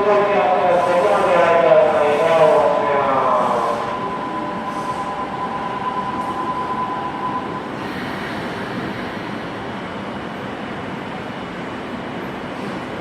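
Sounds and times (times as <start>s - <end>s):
electric train high whine: 0.0s - 12.5s
train wheels rumbling on rails: 0.0s - 13.0s.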